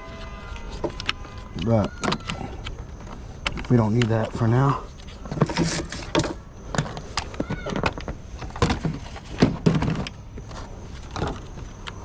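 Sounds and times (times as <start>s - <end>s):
plastic parts clicking and knocking: 0.2s - 12.0s.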